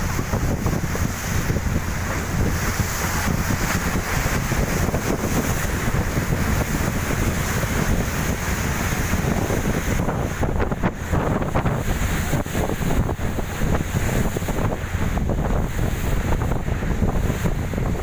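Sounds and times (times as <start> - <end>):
boat engine drone: 0.0 - 18.0
water rushing past boat: 0.0 - 18.0
wind buffeting microphone: 0.0 - 18.0.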